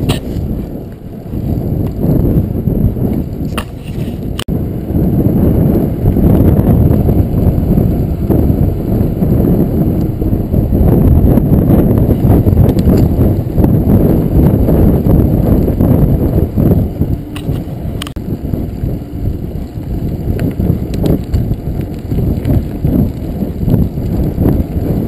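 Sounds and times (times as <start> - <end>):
bike tyres rolling on pavement: 0.0 - 25.0
wind buffeting microphone: 0.0 - 25.0.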